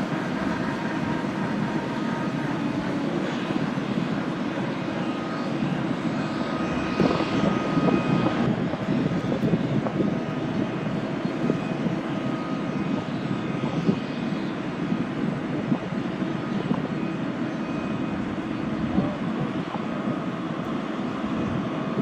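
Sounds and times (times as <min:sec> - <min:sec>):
helicopter rotors and engines: 0:00.0 - 0:22.0.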